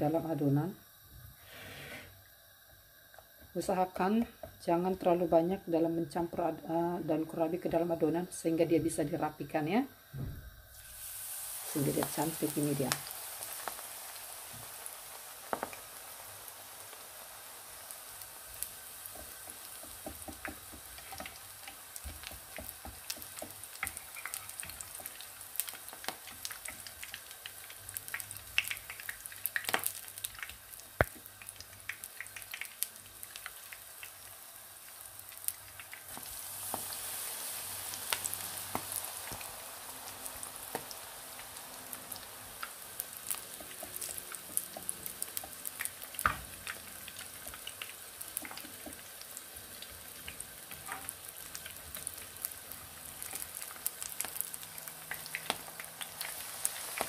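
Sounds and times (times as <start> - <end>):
battered leaves frying in oil: 0.0 - 57.0.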